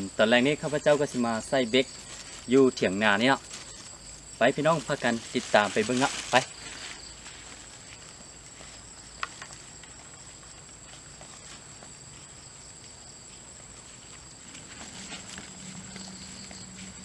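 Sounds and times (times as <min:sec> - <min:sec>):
faint rustling: 0:00.0 - 0:17.0
insects chirring: 0:00.0 - 0:17.0.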